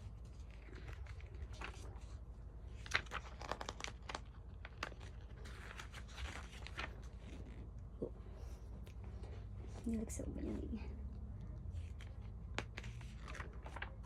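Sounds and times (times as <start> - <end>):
magazine pages rustling: 0.0 - 10.0, 11.8 - 14.0.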